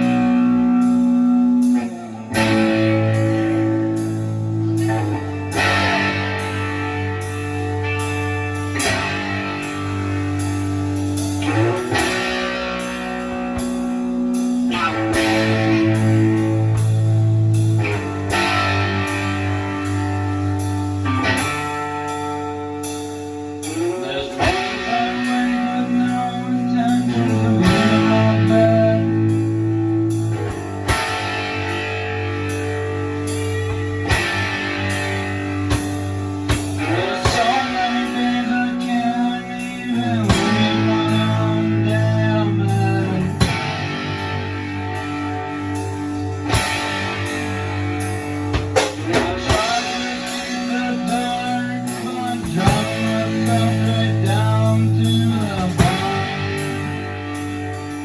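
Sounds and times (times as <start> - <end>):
bending guitar melody: 0.0 - 58.0
guitar chords: 0.0 - 58.0.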